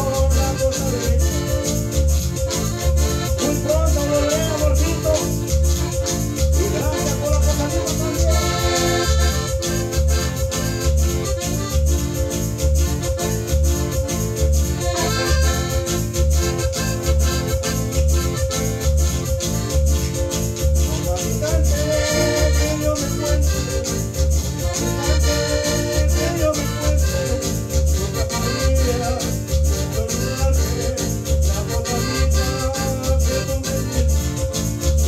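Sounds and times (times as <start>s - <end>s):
accordion playing a tune: 0.0s - 35.0s
steady bass beat: 0.0s - 35.0s.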